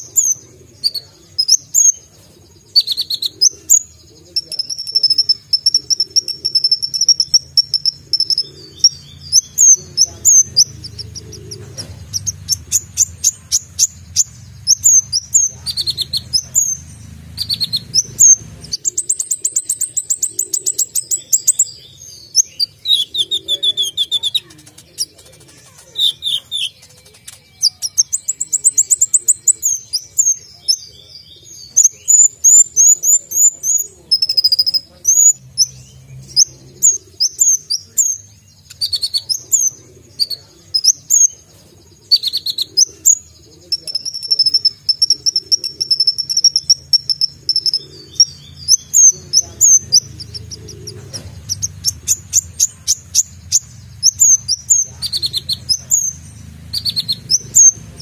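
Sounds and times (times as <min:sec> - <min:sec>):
sunbird singing: 0:00.0 - 0:58.0.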